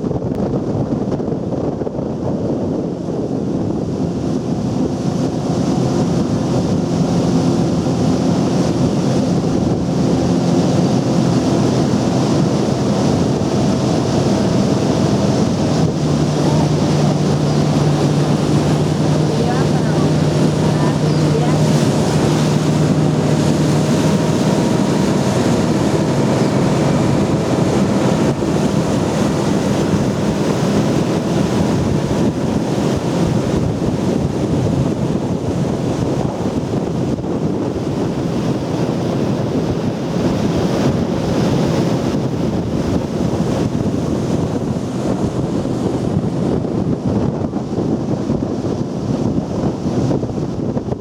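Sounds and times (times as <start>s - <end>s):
faint boat engine: 0.0s - 51.0s
wind on microphone: 0.0s - 51.0s
water washing: 2.5s - 49.9s.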